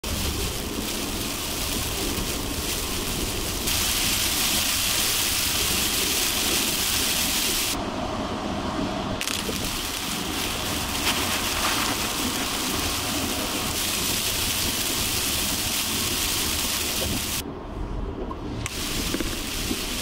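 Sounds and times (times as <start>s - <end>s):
heavy rain and tyre spray hiss: 0.0s - 20.0s
low road rumble: 0.0s - 20.0s.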